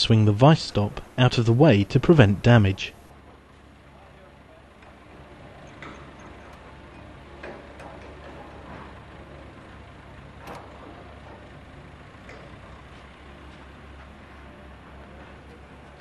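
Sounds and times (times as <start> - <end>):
machinery engine hum: 0.0 - 16.0.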